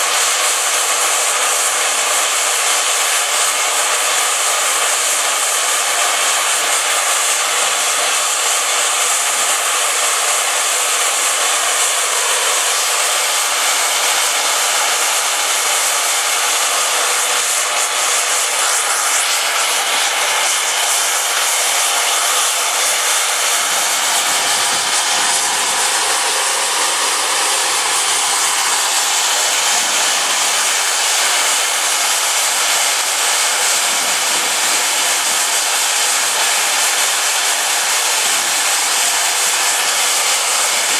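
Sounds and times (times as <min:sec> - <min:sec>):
steam hissing from safety valves: 0:00.0 - 0:40.9.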